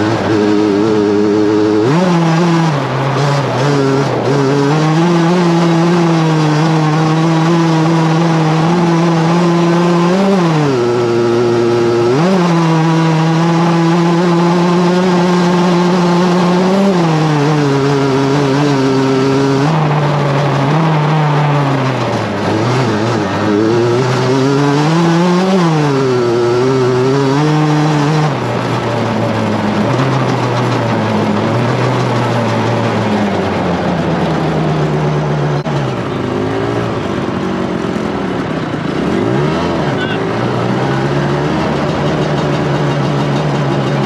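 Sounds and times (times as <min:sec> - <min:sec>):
motorbike engine revving high: 0:00.0 - 0:44.0.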